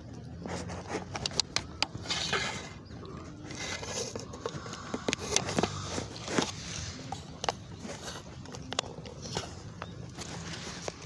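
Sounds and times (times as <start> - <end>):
rustling: 0.2 - 11.0.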